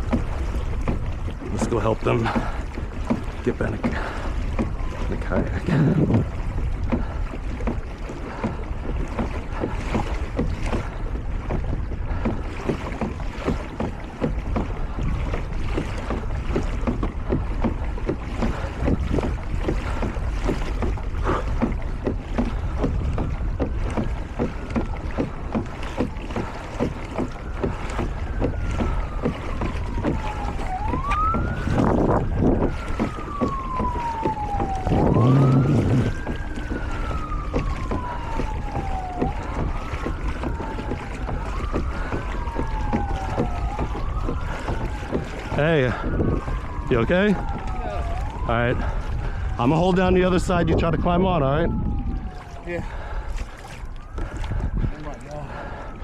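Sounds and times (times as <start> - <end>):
distant siren wailing: 0.0 - 56.0
water noise from kayak: 0.0 - 56.0
wind buffeting microphone: 0.0 - 56.0.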